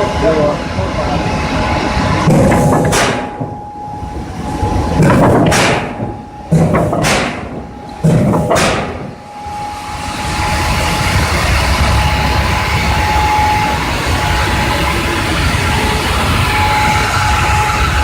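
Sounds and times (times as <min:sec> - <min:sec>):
thin constant whine: 0:00.0 - 0:18.0
forging press motor rumble: 0:01.7 - 0:18.0.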